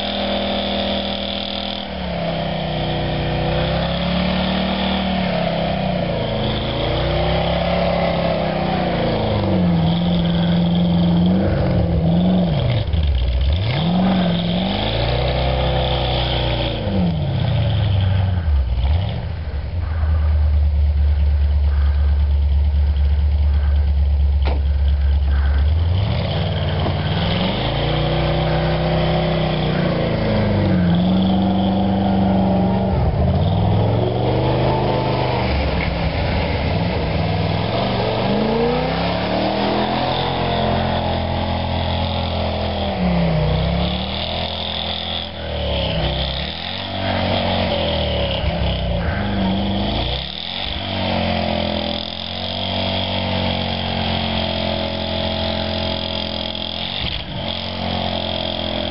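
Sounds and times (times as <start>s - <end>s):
truck engine revving: 0.0s - 58.9s
wheels spinning in snow: 0.0s - 58.9s.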